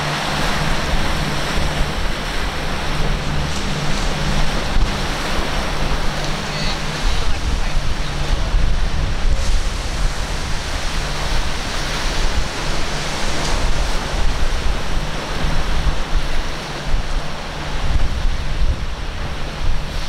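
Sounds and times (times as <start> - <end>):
surf breaking: 0.0 - 20.0
wind buffeting microphone: 0.0 - 20.0.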